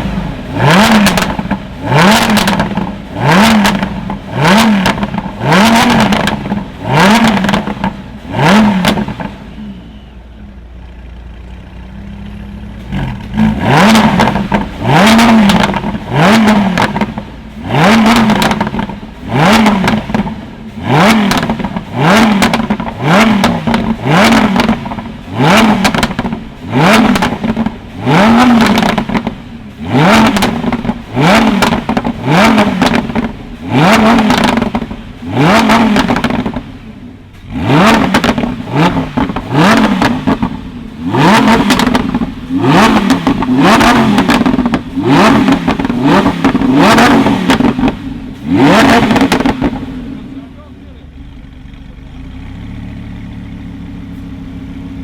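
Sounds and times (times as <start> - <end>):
car engine revving: 0.0 - 10.0, 10.8 - 55.0.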